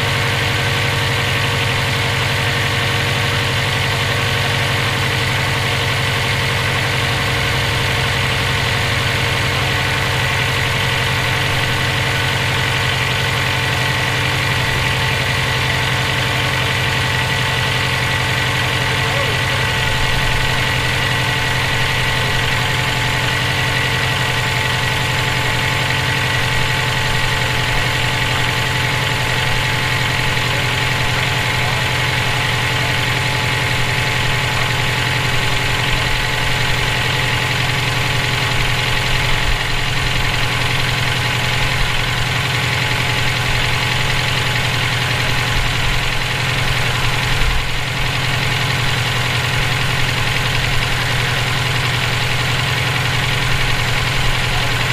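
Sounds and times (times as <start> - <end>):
car engine idling: 0.0 - 54.9
engine knocking noise: 0.0 - 54.9.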